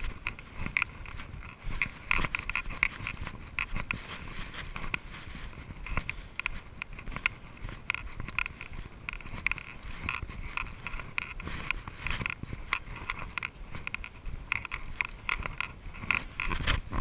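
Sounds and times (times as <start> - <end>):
bike clicks and rattles: 0.0 - 17.0.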